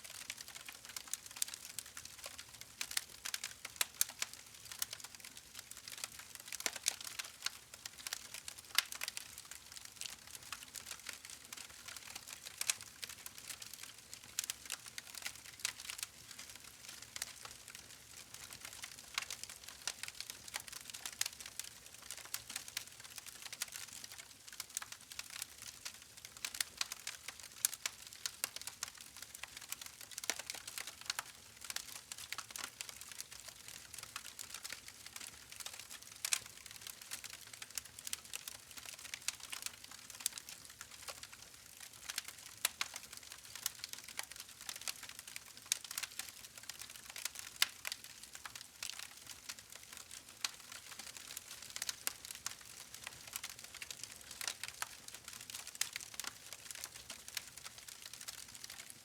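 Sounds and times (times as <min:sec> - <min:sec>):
campfire crackling and popping: 0:00.5 - 0:58.9.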